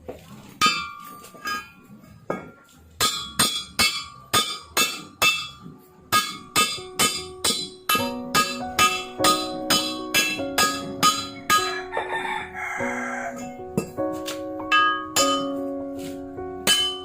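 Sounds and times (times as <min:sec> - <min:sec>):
hammer striking metal: 0:00.6 - 0:17.0.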